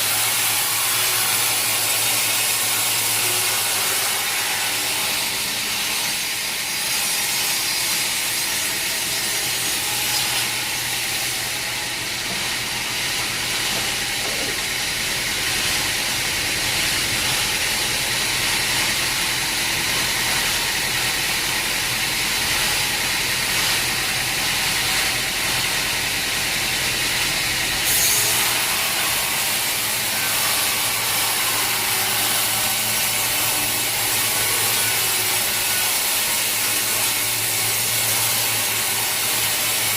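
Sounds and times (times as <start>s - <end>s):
saw hissing through log: 0.0s - 22.4s, 23.0s - 39.9s.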